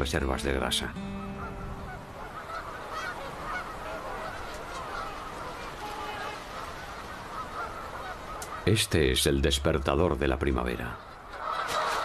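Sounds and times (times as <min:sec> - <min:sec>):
flock of birds calling: 0:00.0 - 0:09.1, 0:10.6 - 0:12.0.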